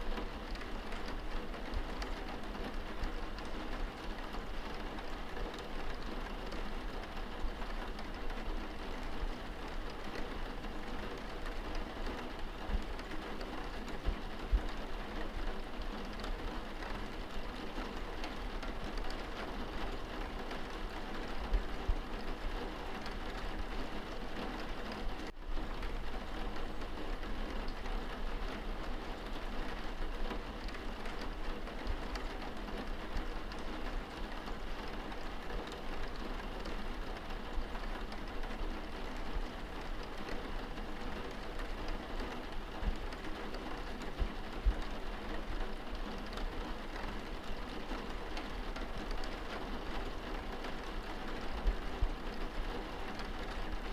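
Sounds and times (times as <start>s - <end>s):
rain pattering on window glass: 0.0s - 53.9s.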